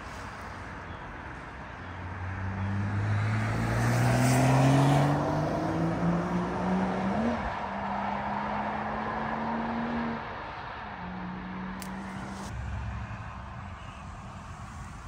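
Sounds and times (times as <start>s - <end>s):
car accelerating past: 2.2s - 15.0s.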